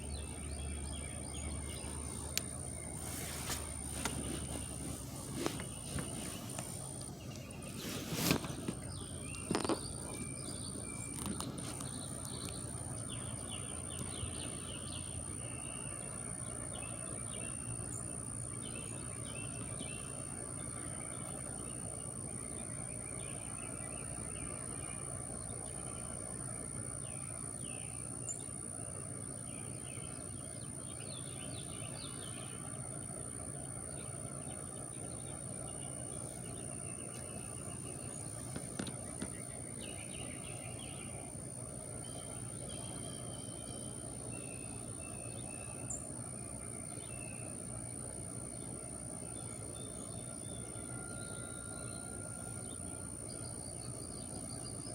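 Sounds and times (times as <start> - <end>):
small birds chirping: 0.0 - 54.9
steady high whine: 0.0 - 54.9.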